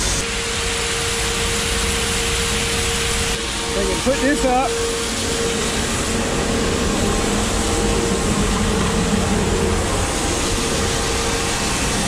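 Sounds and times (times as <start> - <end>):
aeration fan hum: 0.0 - 12.0
grain auger drone: 0.0 - 12.0.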